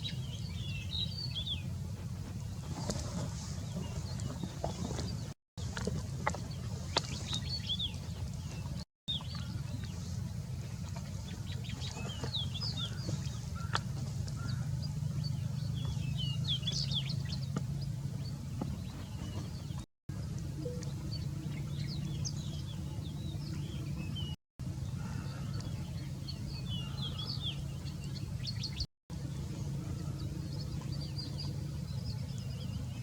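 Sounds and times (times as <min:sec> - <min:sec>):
steady low hum: 0:00.0 - 0:33.0
small birds chirping: 0:02.4 - 0:33.0.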